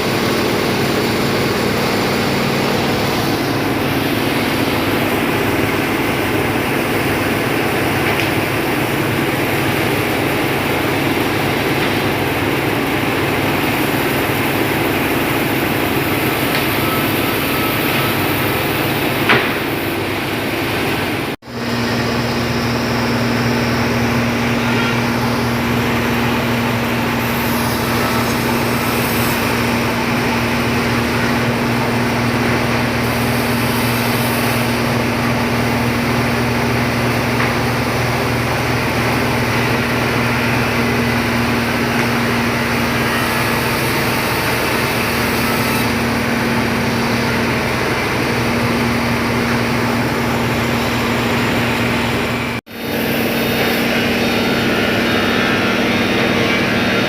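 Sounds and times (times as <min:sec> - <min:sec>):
heavy machinery running: 0:00.0 - 0:57.0.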